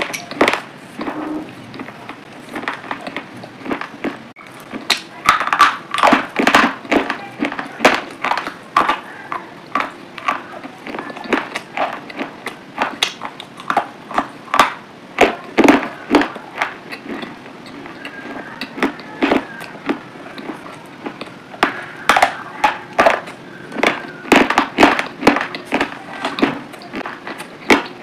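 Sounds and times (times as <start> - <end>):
chewing crunches and juicy pops: 0.0 - 28.0.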